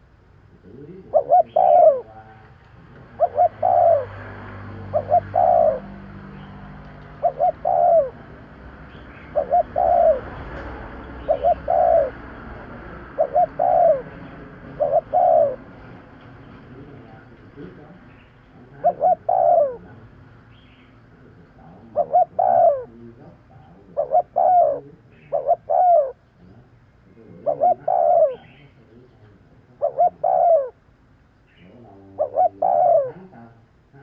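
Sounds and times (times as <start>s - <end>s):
dove cooing: 0.0s - 30.8s, 31.6s - 33.6s.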